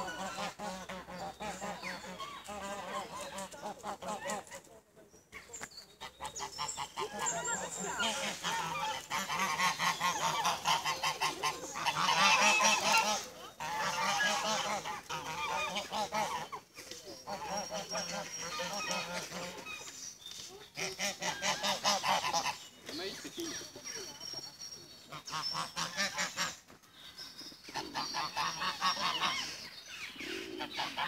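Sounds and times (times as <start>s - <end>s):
geese honking: 0.0s - 4.6s, 6.0s - 19.9s, 20.8s - 22.7s, 25.1s - 26.6s, 27.8s - 31.0s.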